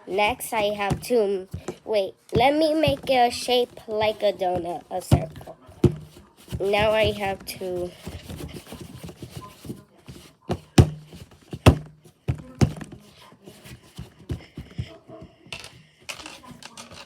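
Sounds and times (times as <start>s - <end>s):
dough patted on tabletop: 0.1s - 17.0s.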